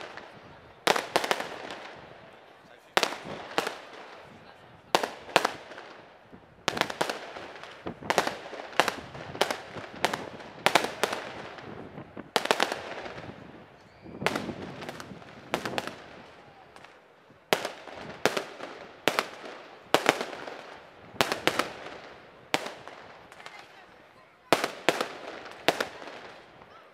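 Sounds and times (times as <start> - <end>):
fireworks bangs echoing: 0.0 - 26.9.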